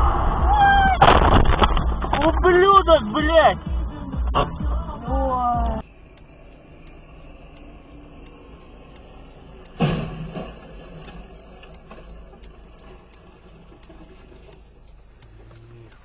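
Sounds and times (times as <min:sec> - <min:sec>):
low rumble of vehicle noise: 0:00.0 - 0:16.0.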